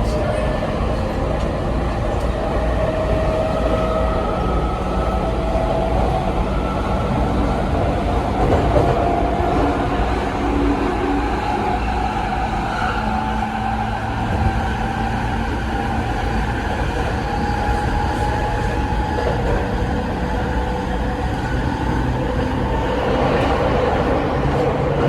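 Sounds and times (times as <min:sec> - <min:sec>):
wheels rumbling on rail: 0:00.0 - 0:25.0.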